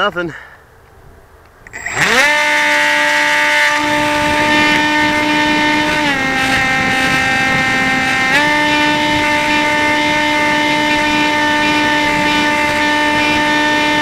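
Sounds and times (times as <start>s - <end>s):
electric motor and propeller whine: 1.5s - 14.0s.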